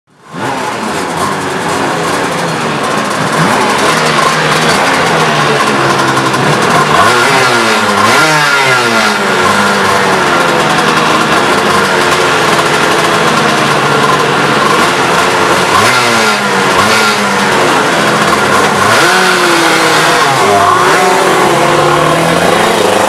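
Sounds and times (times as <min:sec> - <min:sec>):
kart engines revving: 0:00.1 - 0:23.0.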